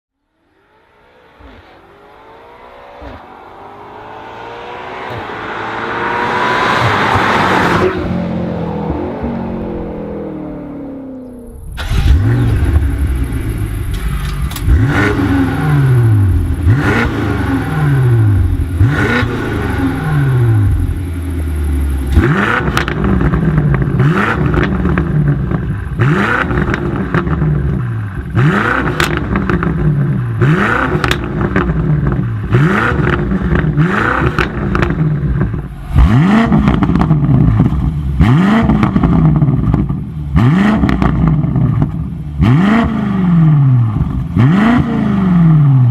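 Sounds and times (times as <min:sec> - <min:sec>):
car engine revving: 0:00.1 - 0:45.9.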